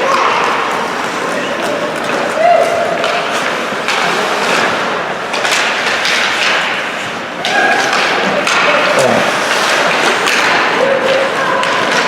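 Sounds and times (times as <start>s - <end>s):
puck and sticks hitting boards: 0.0s - 12.0s.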